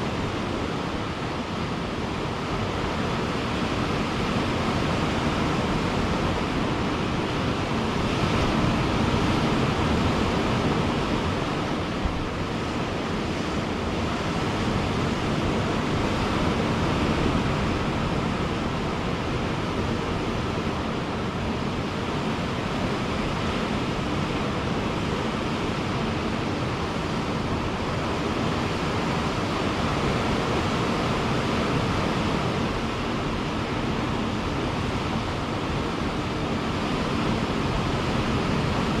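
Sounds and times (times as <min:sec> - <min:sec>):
ocean surf breaking: 0:00.0 - 0:39.0.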